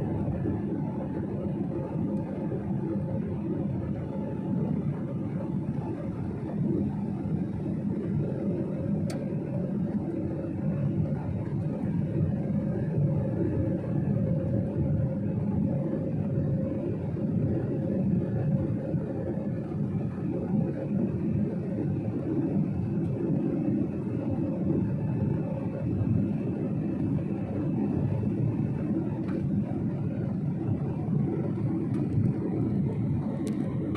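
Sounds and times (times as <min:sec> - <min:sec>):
faint steady hum: 0:00.0 - 0:33.9
jet engine cabin rumble: 0:00.0 - 0:33.9.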